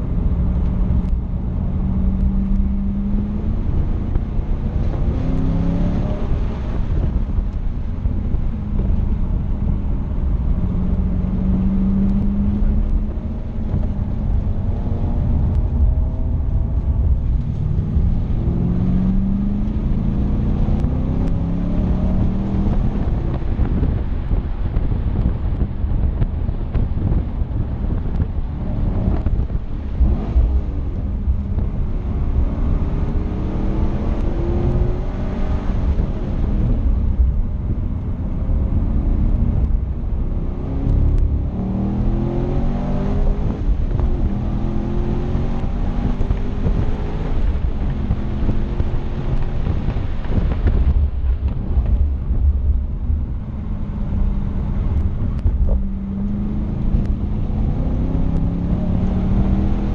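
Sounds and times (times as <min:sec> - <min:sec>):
car engine revving: 0:00.0 - 0:59.9
road rumble: 0:00.0 - 0:59.9
wind noise: 0:00.0 - 0:59.9.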